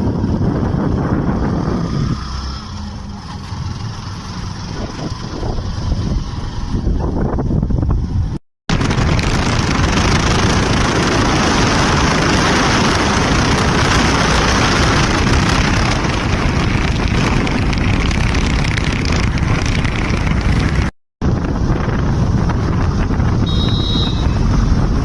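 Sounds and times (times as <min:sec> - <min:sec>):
wind buffeting microphone: 0:00.0 - 0:02.4, 0:04.7 - 0:25.0
motorcycle engine: 0:00.0 - 0:25.0
road noise: 0:00.0 - 0:25.0.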